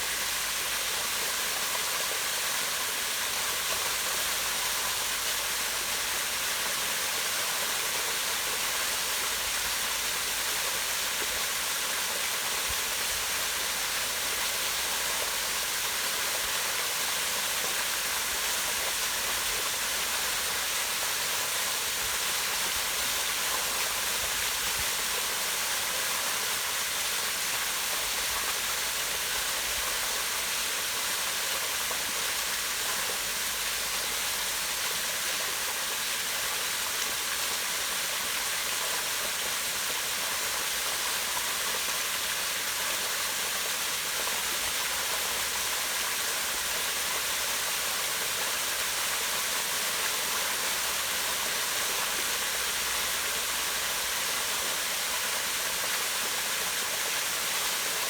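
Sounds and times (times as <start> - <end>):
small waterfall splashing into pond: 0.0 - 58.0.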